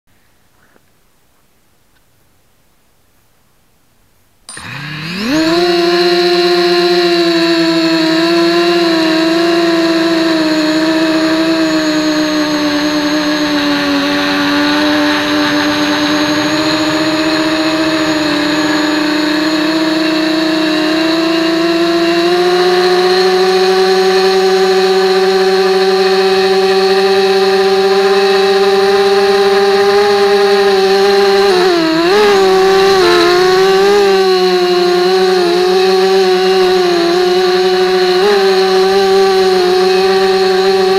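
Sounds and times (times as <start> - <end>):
model aircraft motor whine: 4.5 - 40.9.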